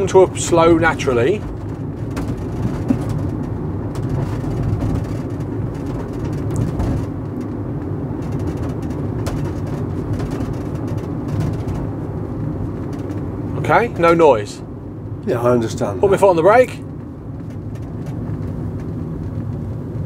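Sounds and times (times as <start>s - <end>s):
light rattles: 0.0s - 15.2s, 16.0s - 20.0s
low road rumble in van cabin: 0.0s - 20.0s.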